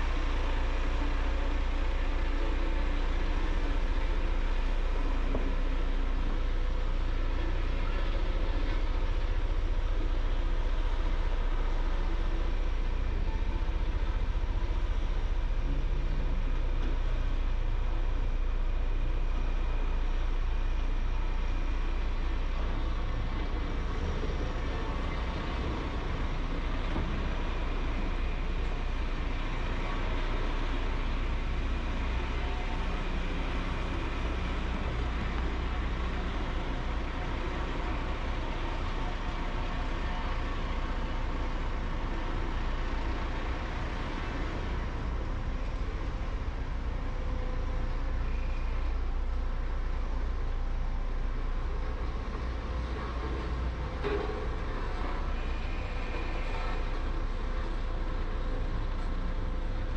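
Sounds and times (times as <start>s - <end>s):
deep engine rumble: 0.0s - 59.9s.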